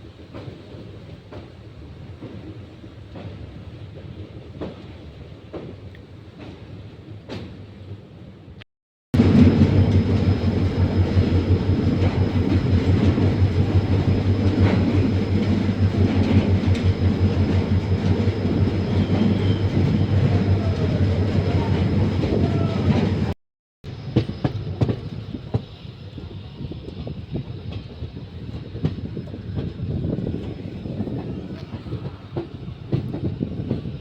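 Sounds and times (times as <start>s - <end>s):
train wheels rumbling on rails: 0.0s - 8.6s, 9.2s - 34.0s.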